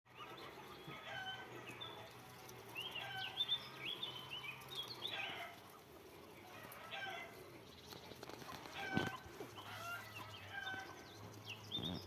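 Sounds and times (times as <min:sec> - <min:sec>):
birds peeping: 0:00.1 - 0:12.0.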